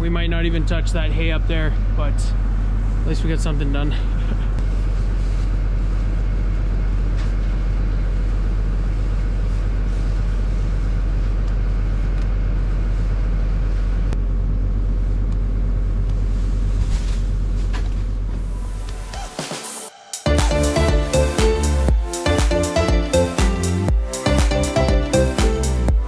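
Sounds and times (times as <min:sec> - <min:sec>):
loader engine humming: 0:00.0 - 0:19.2, 0:20.3 - 0:26.0.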